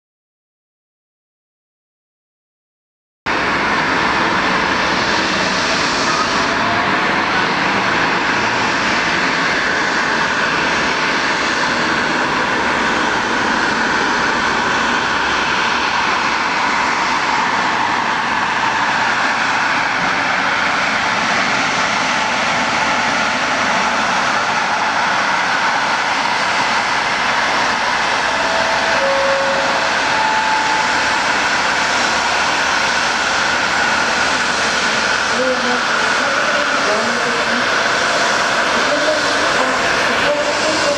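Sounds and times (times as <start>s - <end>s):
distant jet engine noise: 3.3s - 40.9s.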